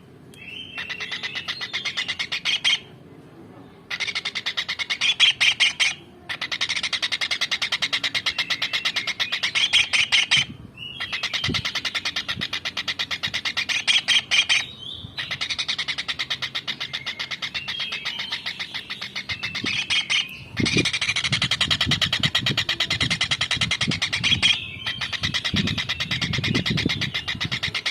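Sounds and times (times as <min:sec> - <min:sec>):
kingfisher calling: 0:00.4 - 0:02.9, 0:03.9 - 0:27.9.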